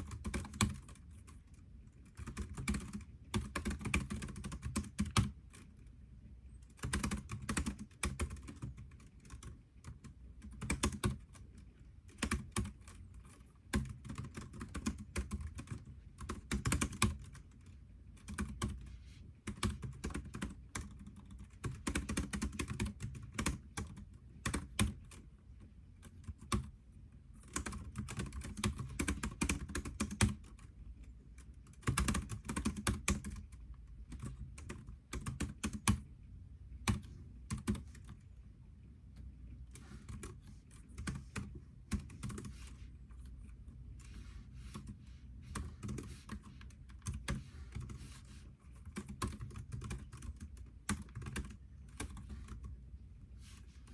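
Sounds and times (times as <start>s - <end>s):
typing on a keyboard: 0.0s - 5.8s, 6.6s - 26.8s, 27.4s - 36.1s, 36.8s - 38.2s, 39.7s - 43.4s, 44.7s - 52.8s.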